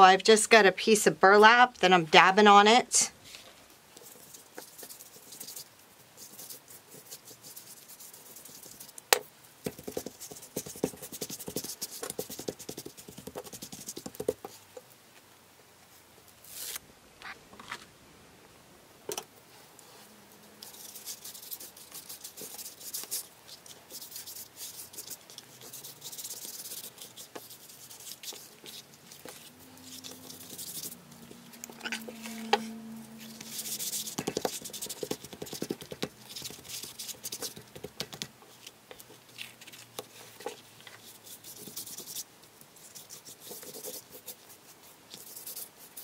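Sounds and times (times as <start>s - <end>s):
brush dabbing and scrubbing paper: 3.2s - 9.0s, 9.7s - 14.7s, 19.5s - 46.0s.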